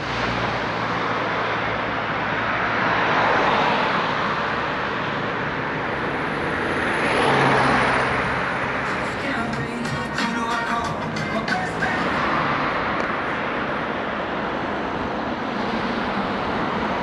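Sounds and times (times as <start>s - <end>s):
cars passing on street: 0.0s - 17.0s.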